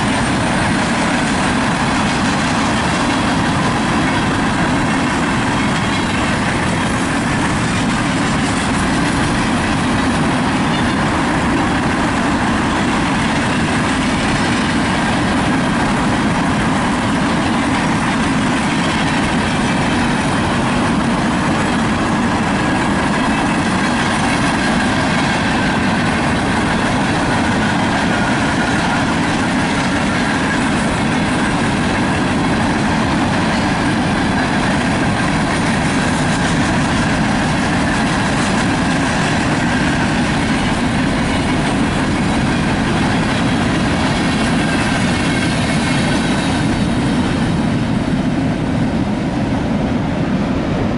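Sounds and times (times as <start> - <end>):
freight train cars rolling on rails: 0.0 - 50.9.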